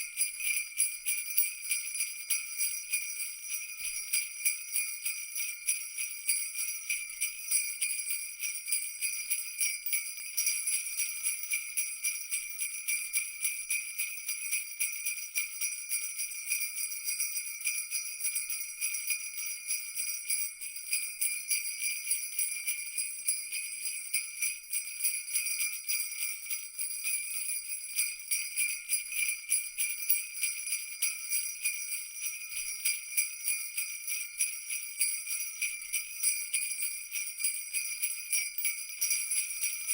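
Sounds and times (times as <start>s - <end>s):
jingle bells shaking: 0.0s - 39.9s.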